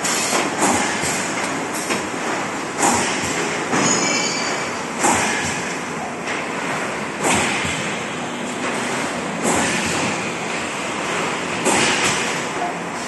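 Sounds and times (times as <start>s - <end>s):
machine running mechanical noise: 0.0s - 13.0s.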